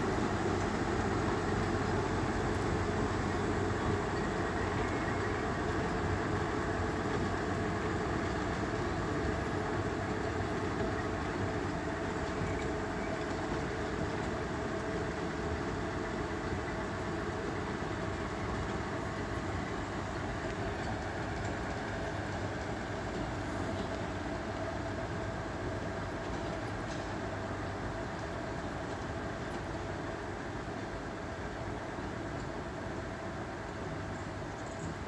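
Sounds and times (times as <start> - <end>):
diesel locomotive engine droning: 0.0 - 35.0
train wheels on rails: 0.0 - 35.0.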